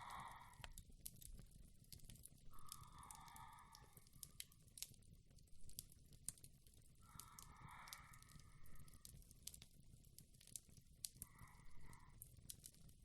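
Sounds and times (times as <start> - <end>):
woman breathing slowly: 0.0 - 4.9, 5.6 - 9.9, 10.5 - 13.0
fire crackling: 0.0 - 13.0.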